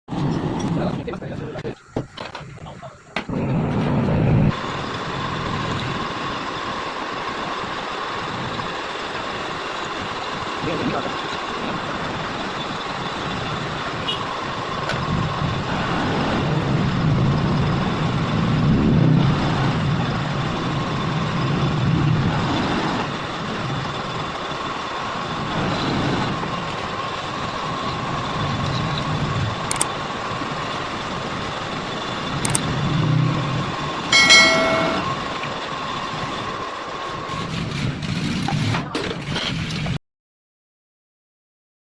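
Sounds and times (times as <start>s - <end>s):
traffic engine rumble: 0.1s - 38.7s.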